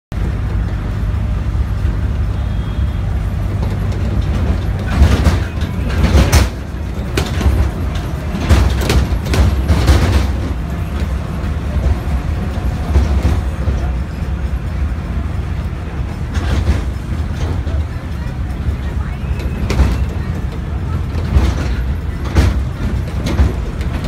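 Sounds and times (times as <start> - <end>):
road traffic rumble: 0.1 - 24.0.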